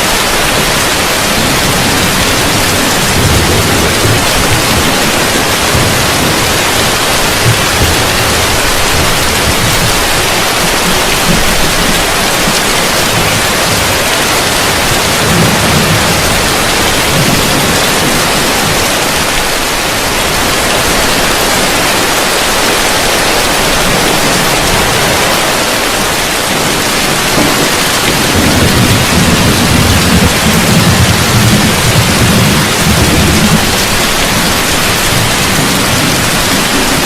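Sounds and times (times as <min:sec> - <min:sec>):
heavy rain on a roof: 0:00.0 - 0:37.0
thunder rolling: 0:00.0 - 0:37.0.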